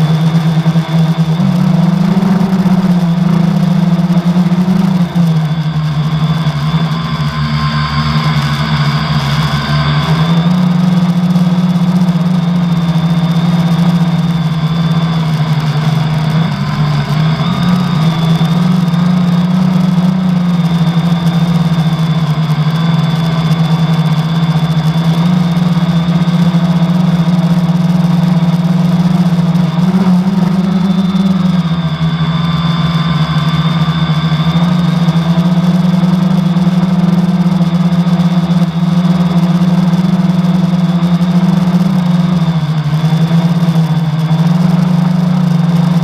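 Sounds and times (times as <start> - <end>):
quadcopter motors buzzing: 0.0 - 46.0.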